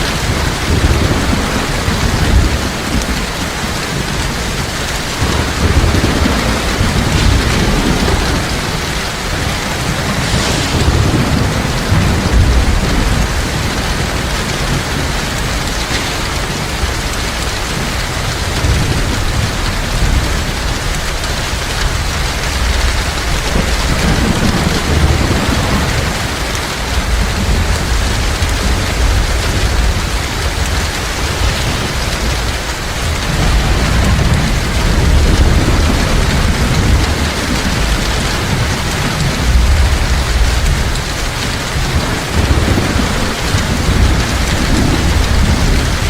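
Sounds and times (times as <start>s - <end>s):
heavy rain pouring: 0.0s - 46.0s
low rumbling thunder: 0.0s - 46.0s.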